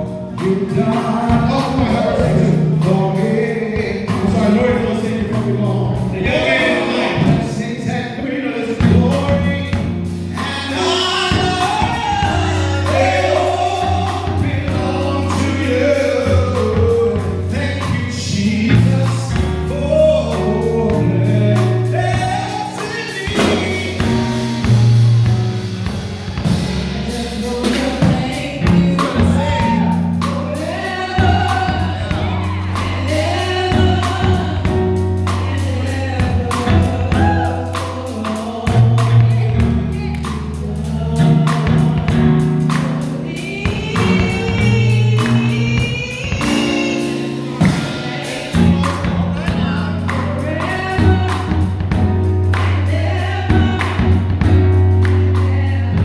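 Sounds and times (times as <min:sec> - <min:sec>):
singers singing: 0:00.0 - 0:24.7, 0:26.4 - 0:56.0
drum kit beat: 0:00.0 - 0:56.0
keyboard: 0:00.0 - 0:56.0
low bass notes: 0:00.0 - 0:56.0.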